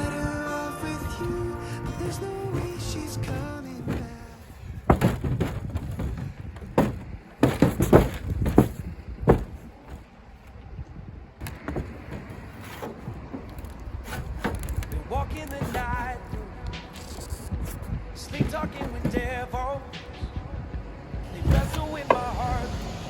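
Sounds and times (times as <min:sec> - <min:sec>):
tools knocking and clanking on metal: 0:01.2 - 0:10.1, 0:11.5 - 0:20.3, 0:21.3 - 0:22.7.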